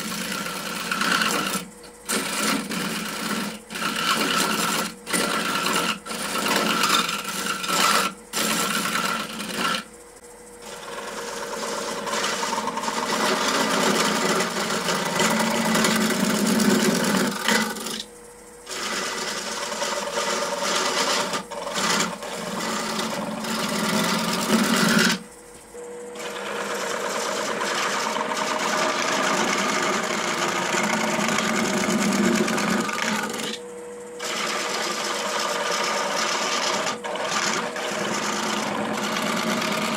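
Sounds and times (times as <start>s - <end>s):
wood lathe gouge cutting: 0.0s - 9.9s, 10.6s - 18.1s, 18.7s - 25.2s, 26.2s - 33.6s, 34.2s - 39.9s.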